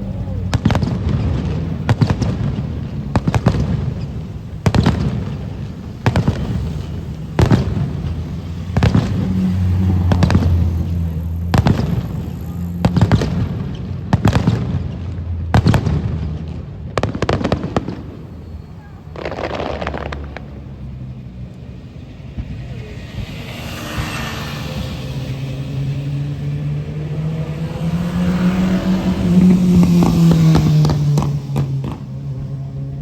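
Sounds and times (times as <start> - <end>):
fireworks bursting with echoes: 0.0 - 33.0.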